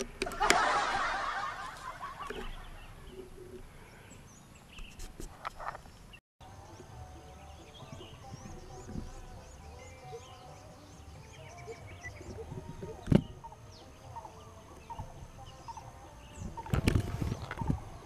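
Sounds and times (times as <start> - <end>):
flock of birds chattering: 0.3 - 18.0.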